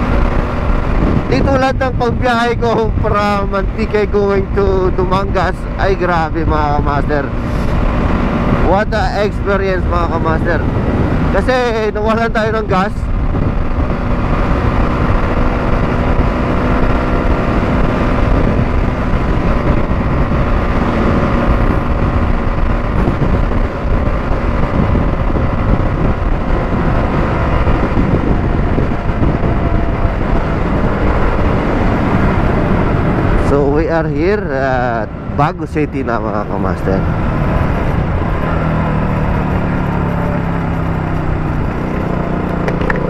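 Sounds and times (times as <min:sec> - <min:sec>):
motorcycle engine cruising: 0:00.0 - 0:43.0
wind rush on microphone: 0:00.0 - 0:43.0.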